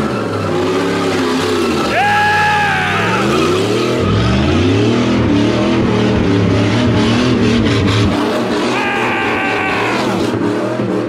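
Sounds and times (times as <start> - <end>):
engine revving: 0.0 - 11.0
tire squeal: 0.0 - 11.0.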